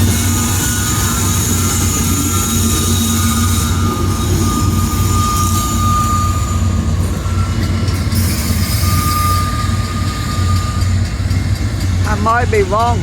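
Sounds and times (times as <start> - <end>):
high wheel squeal: 0.0 - 12.0
train rumbling past: 0.0 - 13.0.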